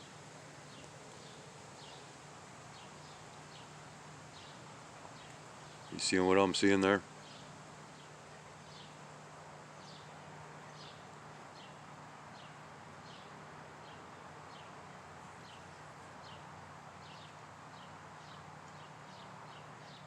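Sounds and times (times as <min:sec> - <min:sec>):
faint steady low hum: 0:00.0 - 0:20.0.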